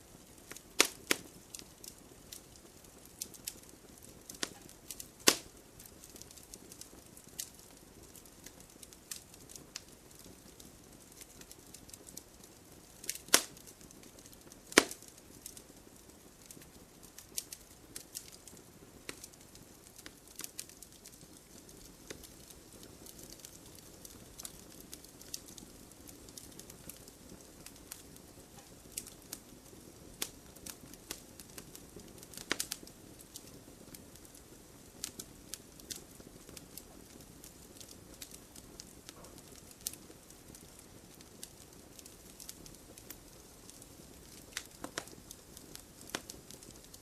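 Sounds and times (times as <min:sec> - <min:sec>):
campfire hissing: 0:00.0 - 0:47.0
fire crackles and pops: 0:00.0 - 0:47.0.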